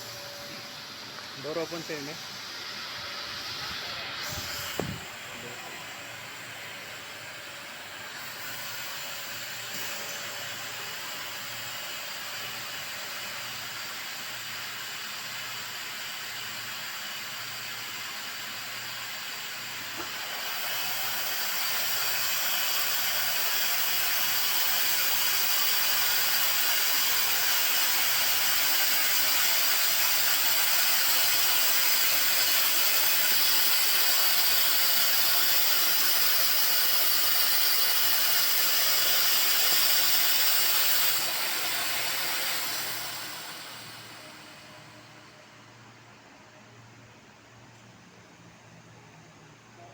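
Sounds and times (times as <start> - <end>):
furnace hissing: 0.0 - 47.0.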